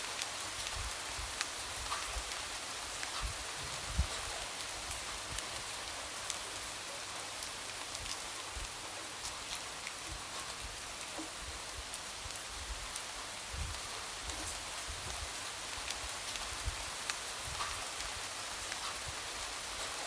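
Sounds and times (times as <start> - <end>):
light rain hiss: 0.0 - 20.0.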